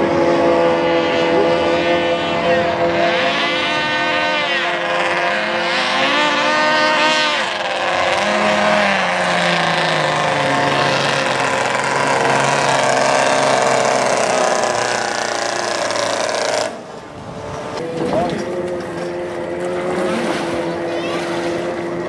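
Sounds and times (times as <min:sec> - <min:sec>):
motorboat engine at high revs: 0:00.0 - 0:22.0.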